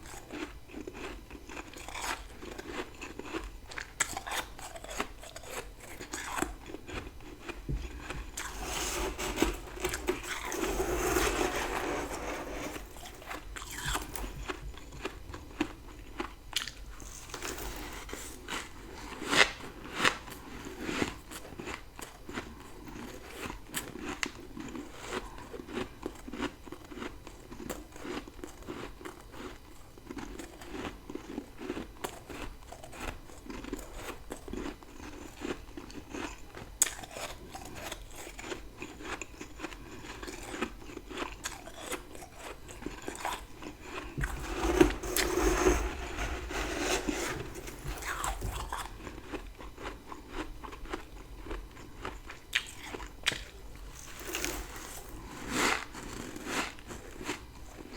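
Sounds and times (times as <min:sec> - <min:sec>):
crunching and chewing frost: 0:00.0 - 0:57.9.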